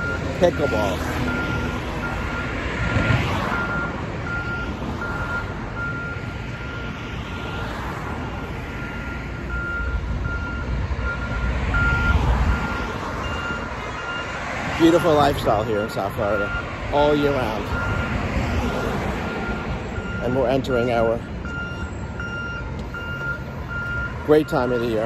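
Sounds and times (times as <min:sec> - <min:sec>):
reversing alarm beeping: 0:00.0 - 0:07.0, 0:08.8 - 0:25.0
road traffic: 0:00.0 - 0:25.0
truck engine rumble: 0:00.0 - 0:25.0.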